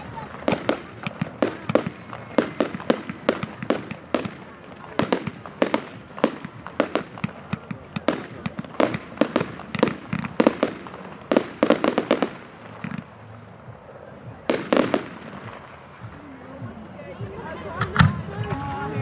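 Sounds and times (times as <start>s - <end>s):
fireworks exploding: 0.0s - 16.8s.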